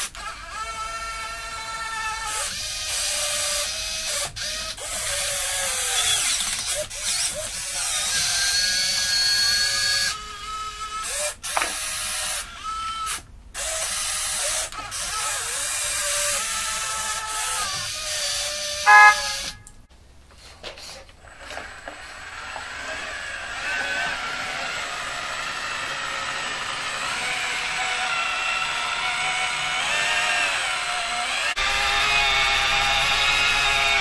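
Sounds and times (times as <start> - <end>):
toy excavator motors whining: 0.0 - 19.7, 20.8 - 34.0.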